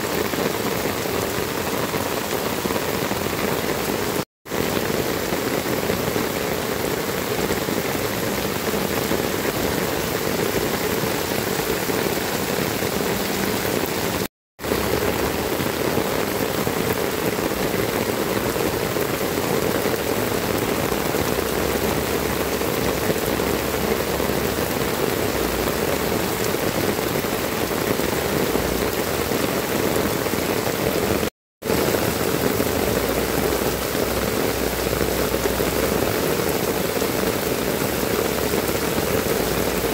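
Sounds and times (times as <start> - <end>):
heavy rain on tile roofs: 0.0 - 39.9.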